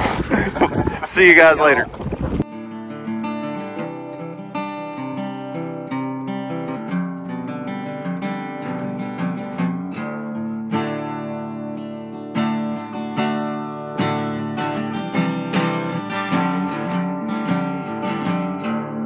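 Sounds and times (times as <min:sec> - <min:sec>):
acoustic guitar music: 0:02.0 - 0:19.0.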